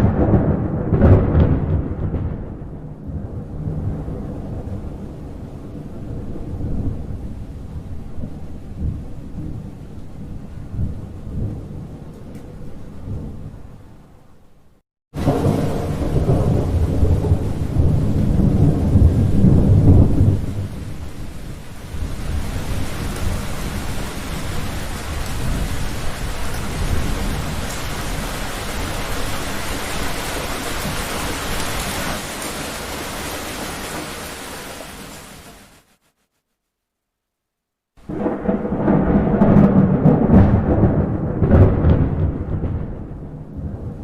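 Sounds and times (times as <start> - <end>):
thunder rumbling: 0.0 - 14.1, 15.2 - 35.2, 38.0 - 44.0
steady rain: 0.0 - 36.3, 38.0 - 44.0.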